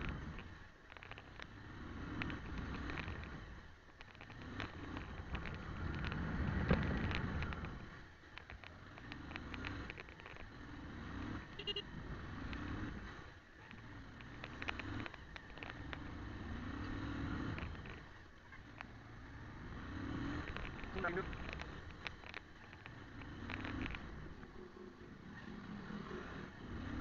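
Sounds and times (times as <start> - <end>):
motorcycle engine: 0.0 - 27.0
road rumble: 0.0 - 27.0.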